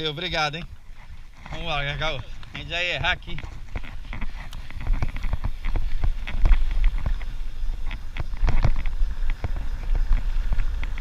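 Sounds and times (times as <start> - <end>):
bike rattling over bumps: 0.0 - 11.0
wind buffeting microphone: 0.0 - 11.0.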